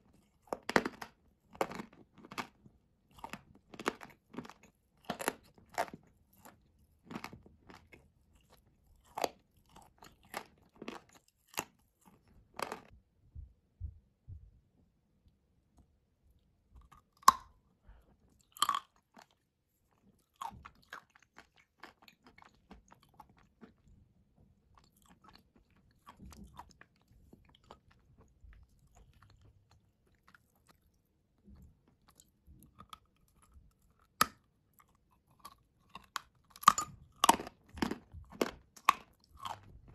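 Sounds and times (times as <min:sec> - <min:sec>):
clay being chewed crunchily: 0:00.0 - 0:13.0, 0:15.8 - 0:39.9.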